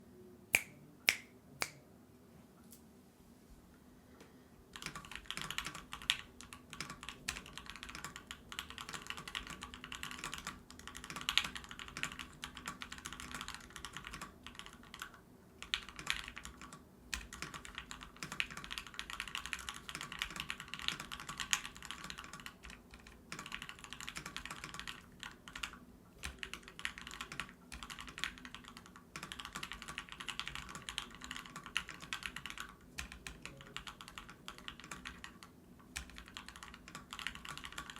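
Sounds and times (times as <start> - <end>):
mechanical keyboard typing: 4.7 - 37.9.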